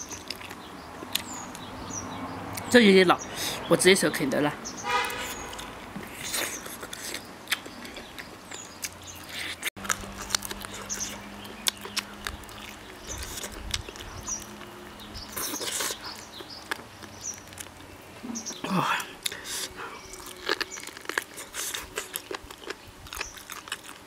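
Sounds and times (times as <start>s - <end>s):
gnawing and chewing meat: 0.0s - 2.7s, 5.1s - 24.0s.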